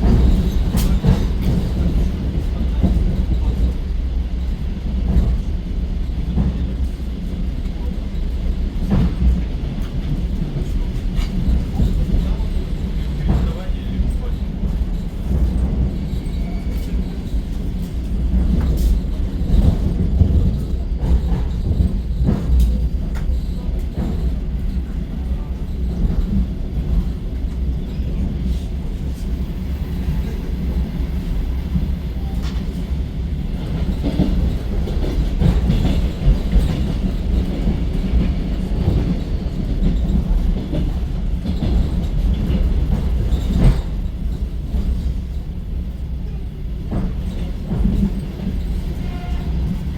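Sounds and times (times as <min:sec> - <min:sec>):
electric train rumble: 0:00.0 - 0:49.9
train wheels clicking: 0:00.0 - 0:49.9.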